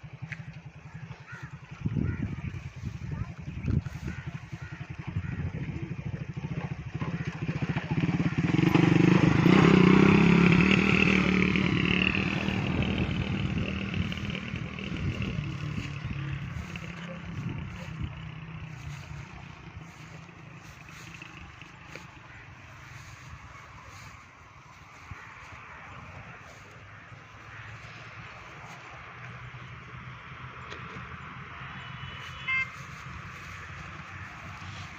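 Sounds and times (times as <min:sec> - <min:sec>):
motorcycle engine passing: 0:00.0 - 0:34.9.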